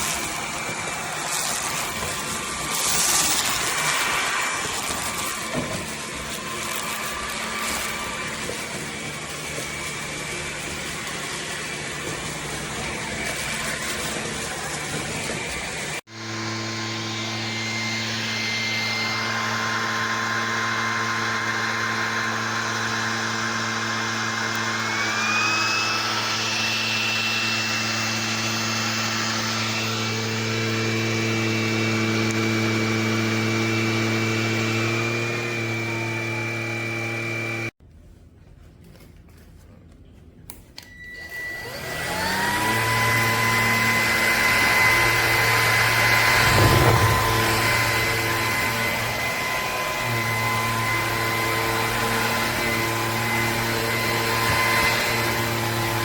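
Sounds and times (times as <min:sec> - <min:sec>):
vacuum motor whine: 0:00.0 - 0:37.8, 0:40.8 - 0:56.0.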